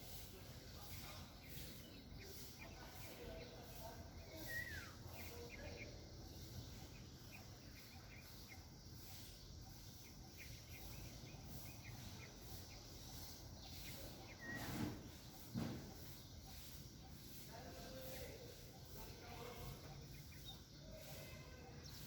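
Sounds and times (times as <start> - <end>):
outdoor background noise: 0.0 - 22.0
small birds chirping: 0.0 - 22.0.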